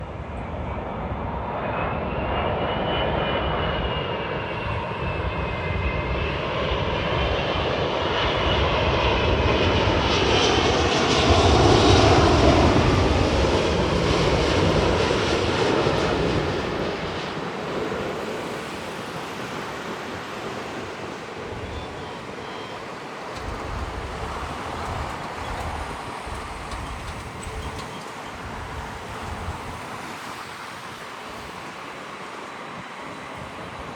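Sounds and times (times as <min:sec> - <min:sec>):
jet engines passing by: 0:00.0 - 0:33.9
high engine whine: 0:01.6 - 0:33.9.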